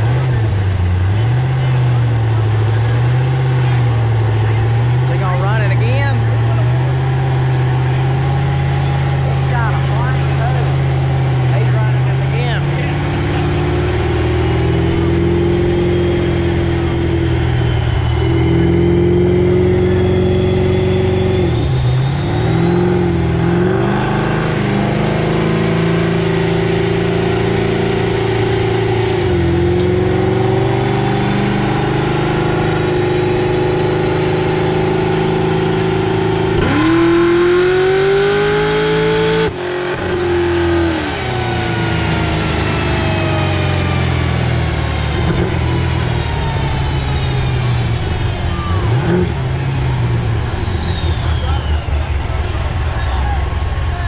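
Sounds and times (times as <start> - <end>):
car engine running hard: 0.0 - 54.0
whine of spinning rollers and tyres: 0.0 - 54.0.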